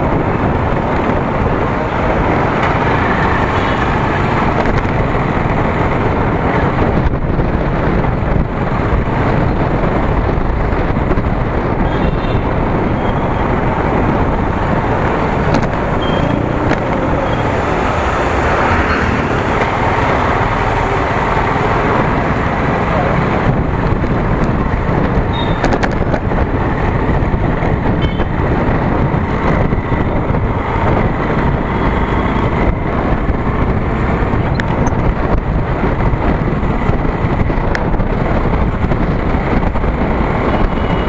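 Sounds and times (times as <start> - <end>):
road noise: 0.0 - 41.0
wind rushing: 0.0 - 41.0.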